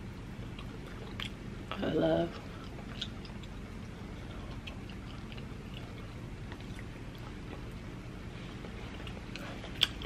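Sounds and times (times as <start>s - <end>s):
low steady hum: 0.0s - 10.0s
faint chewing with mouth clicks: 0.4s - 10.0s.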